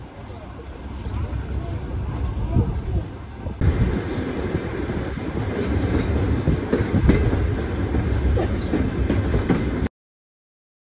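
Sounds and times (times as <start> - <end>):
train rumbling on track: 0.0 - 9.9.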